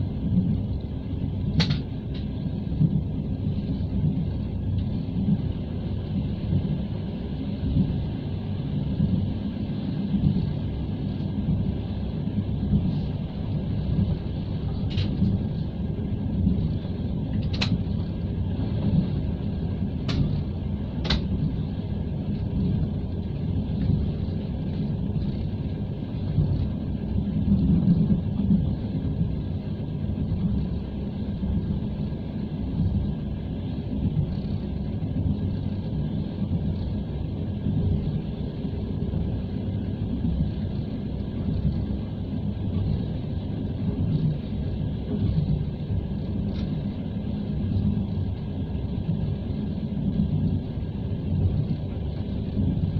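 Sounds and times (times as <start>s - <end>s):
train wheels rumbling on track: 0.0s - 52.9s.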